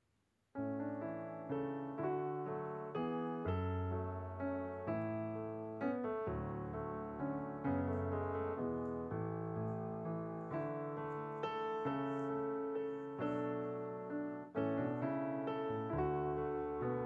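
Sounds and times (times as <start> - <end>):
gentle piano music: 0.6 - 17.0.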